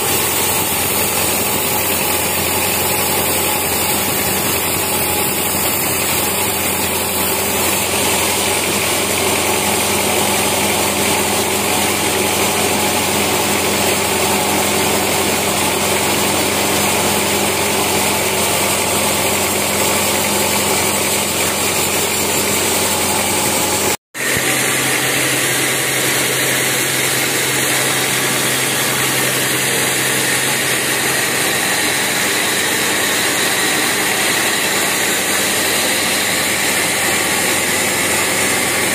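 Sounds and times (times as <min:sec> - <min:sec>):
sawmill machine drone: 0:00.0 - 0:38.9.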